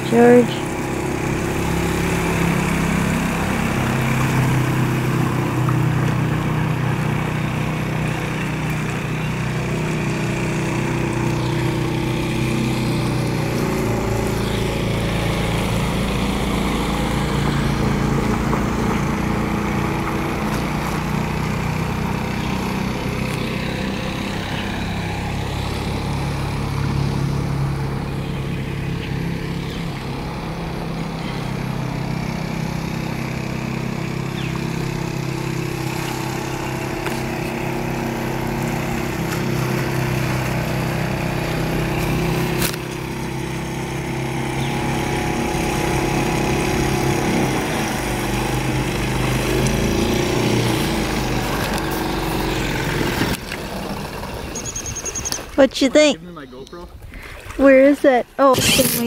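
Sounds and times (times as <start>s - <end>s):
small boat engine running: 0.0s - 59.0s.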